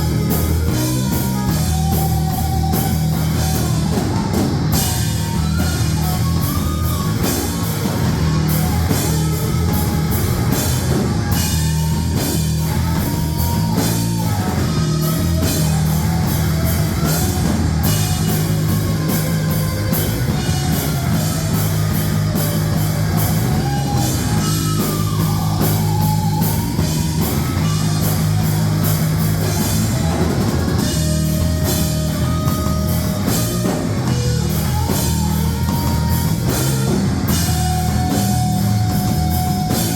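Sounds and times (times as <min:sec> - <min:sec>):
drum kit: 0:00.0 - 0:39.9
guitars: 0:00.0 - 0:39.9
heavy metal band playing: 0:00.0 - 0:39.9.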